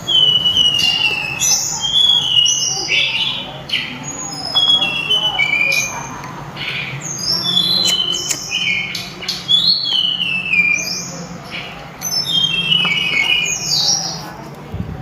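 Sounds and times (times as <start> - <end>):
songbird whistling: 0.0 - 6.1, 7.0 - 14.2.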